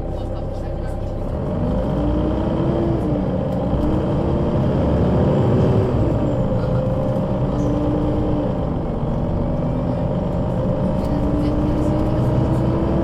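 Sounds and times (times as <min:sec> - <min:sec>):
bus engine shifting gears: 0:00.0 - 0:13.0.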